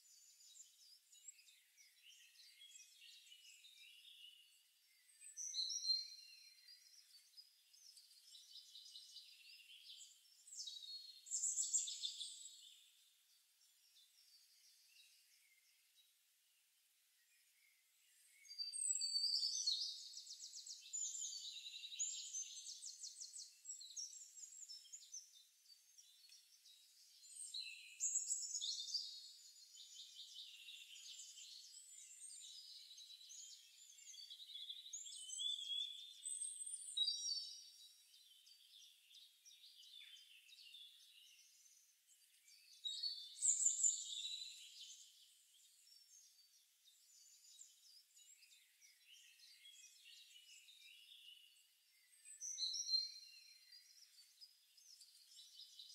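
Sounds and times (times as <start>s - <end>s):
songbirds trilling and chirping: 0.0s - 55.9s.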